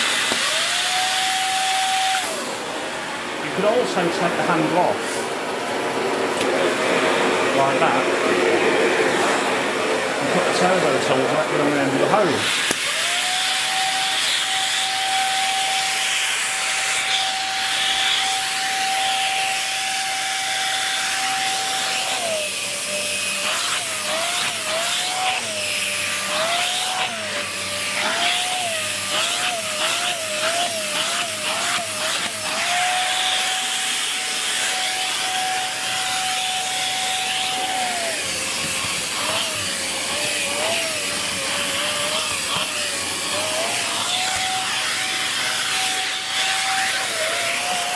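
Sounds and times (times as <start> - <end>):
vacuum cleaner motor running: 0.0 - 47.9.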